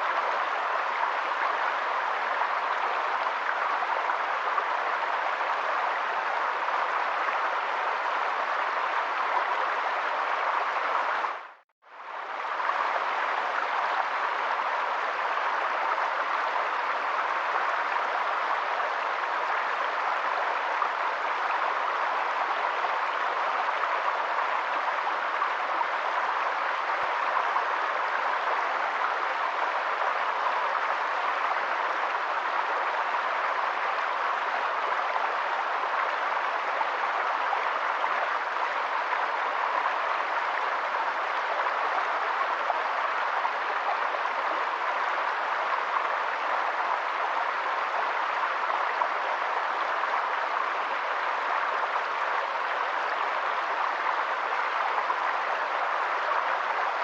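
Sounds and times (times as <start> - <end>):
steady hiss of water: 0.0 - 57.0.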